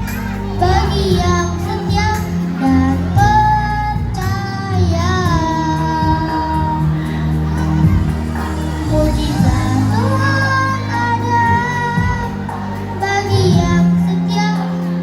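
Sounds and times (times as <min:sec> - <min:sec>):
backing music: 0:00.0 - 0:15.0
child singing: 0:00.0 - 0:15.0.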